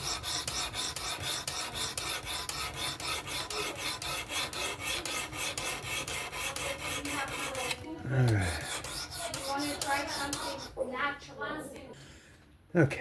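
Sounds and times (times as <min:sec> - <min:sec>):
sharpening stone scraping knife edge: 0:00.0 - 0:10.8.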